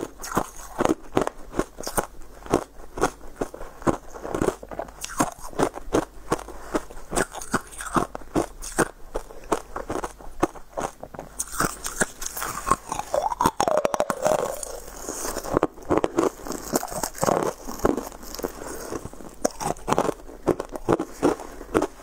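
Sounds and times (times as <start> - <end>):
crunching frozen pieces: 0.1 - 22.0.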